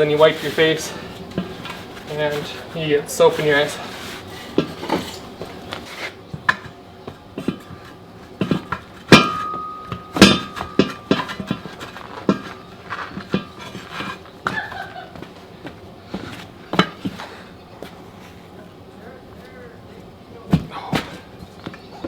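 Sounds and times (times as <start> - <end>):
tire irons knocking on wheel rim: 0.0 - 22.0.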